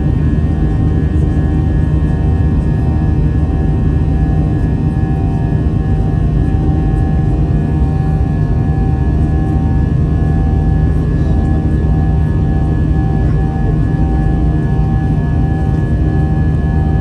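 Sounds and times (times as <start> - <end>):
constant whining tones: 0.0 - 17.0
jet engine drone: 0.0 - 17.0.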